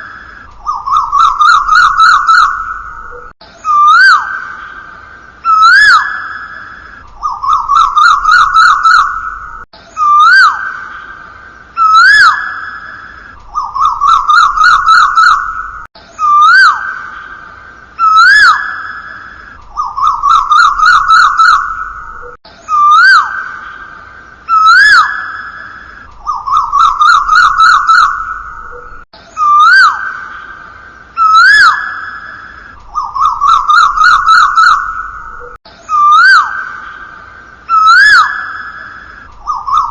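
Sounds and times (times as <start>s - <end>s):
whistled bird-like calls: 0.0s - 39.9s.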